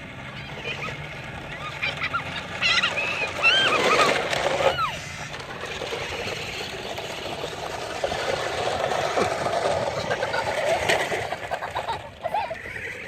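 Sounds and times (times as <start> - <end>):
toy truck electric motors whirring: 0.0 - 13.0.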